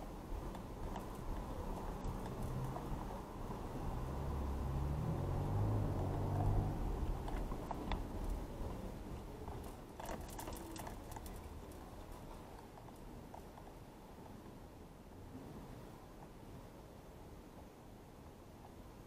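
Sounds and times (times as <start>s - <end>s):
car driving low rumble: 0.0s - 17.6s.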